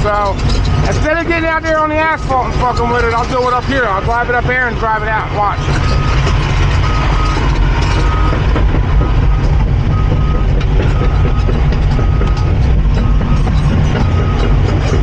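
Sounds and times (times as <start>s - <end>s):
excavator diesel engine under load: 0.0s - 15.0s
steel tracks clattering: 0.0s - 15.0s
travel alarm beeping: 0.3s - 4.1s, 5.0s - 15.0s.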